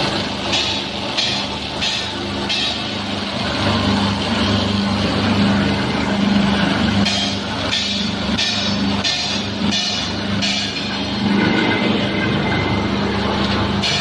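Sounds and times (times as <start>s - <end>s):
industrial machinery humming: 0.0s - 14.0s.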